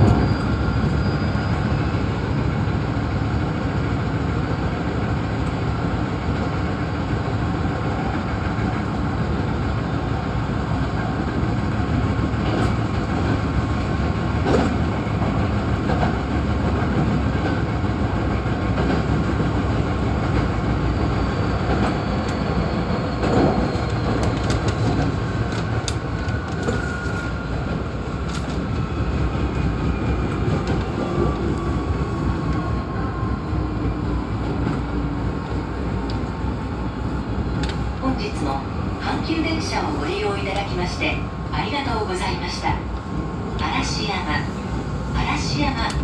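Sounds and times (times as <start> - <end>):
train running rumble: 0.0 - 46.0.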